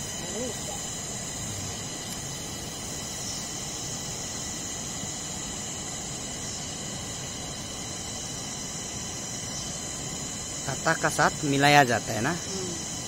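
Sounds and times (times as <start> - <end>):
high hiss: 0.0 - 13.0.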